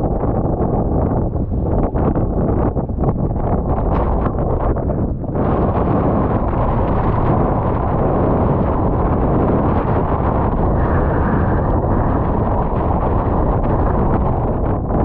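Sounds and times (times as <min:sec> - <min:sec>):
gale wind buffeting microphone: 0:00.0 - 0:15.0.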